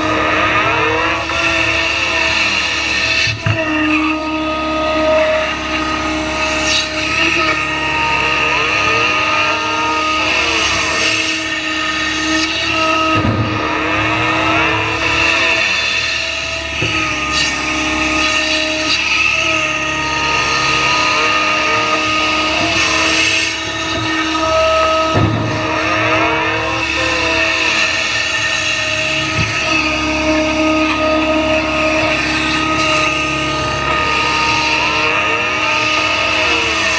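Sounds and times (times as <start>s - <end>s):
excavator engine and hydraulics: 0.0s - 36.9s
hydraulic whine: 0.0s - 36.9s.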